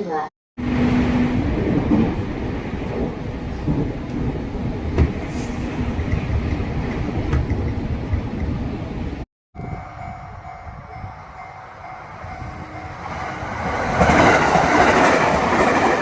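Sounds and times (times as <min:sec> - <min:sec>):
electric train rumbling on rails: 0:00.6 - 0:16.0.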